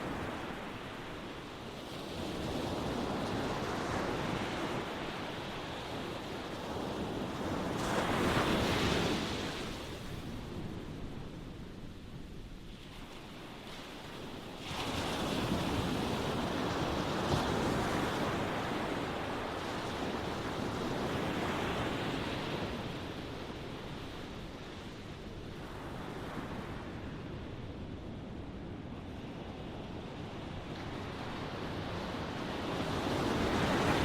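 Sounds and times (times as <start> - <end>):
ocean wave breaking and washing: 0.0 - 34.0.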